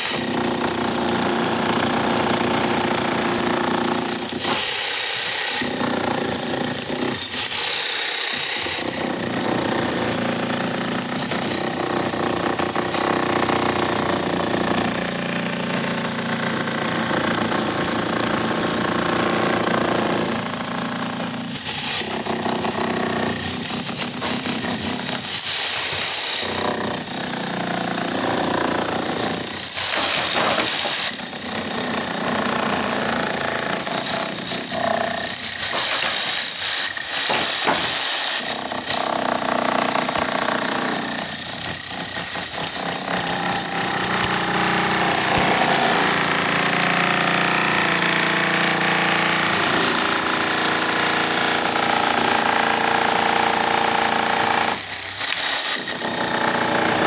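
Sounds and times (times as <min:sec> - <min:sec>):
demolition hammer chiselling concrete: 0:00.0 - 0:57.0.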